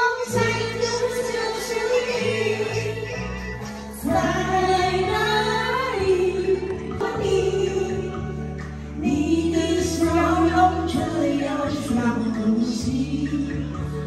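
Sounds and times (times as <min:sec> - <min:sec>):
backing music: 0:00.0 - 0:14.0
woman singing karaoke: 0:00.0 - 0:14.0.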